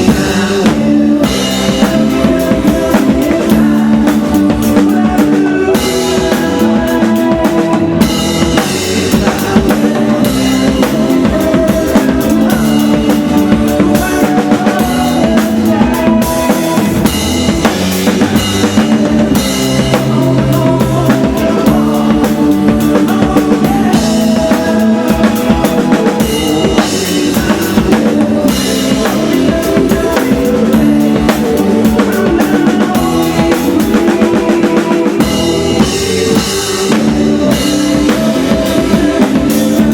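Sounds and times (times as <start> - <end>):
band playing a song: 0.0 - 39.9
drum kit beat: 0.0 - 39.9.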